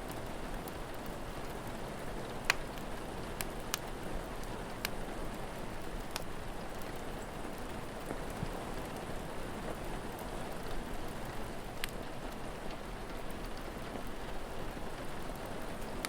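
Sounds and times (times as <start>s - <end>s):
fire crackling: 0.0s - 16.0s
steady rain falling: 0.0s - 16.0s.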